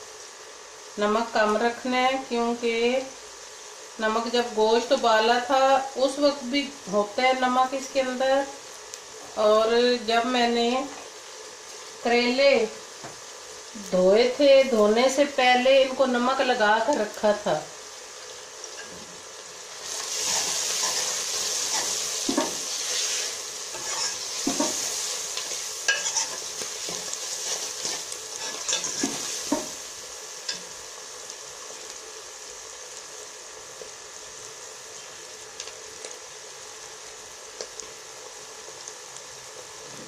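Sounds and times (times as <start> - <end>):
food sizzling in hot oil: 0.0 - 40.0.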